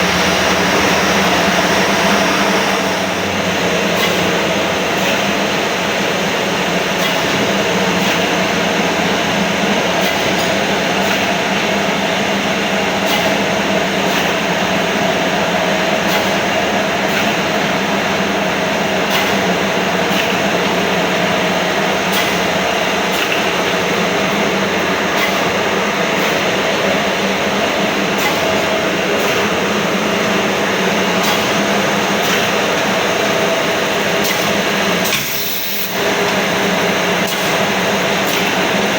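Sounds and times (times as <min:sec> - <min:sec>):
spice mill machine running: 0:00.0 - 0:38.9.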